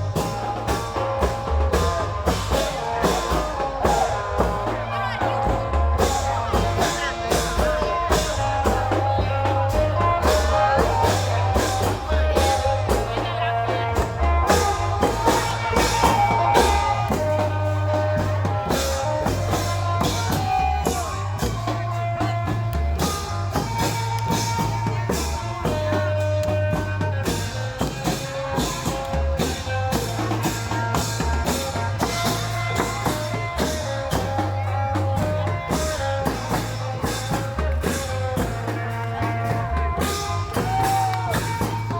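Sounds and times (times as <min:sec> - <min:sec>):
rapid drum strokes: 0:00.0 - 0:41.9.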